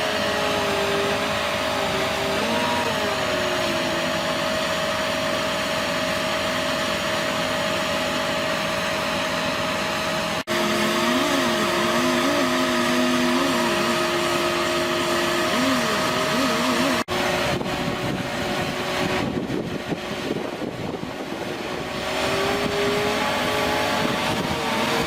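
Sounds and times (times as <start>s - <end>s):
heavy machinery drone with whine: 0.0s - 25.0s.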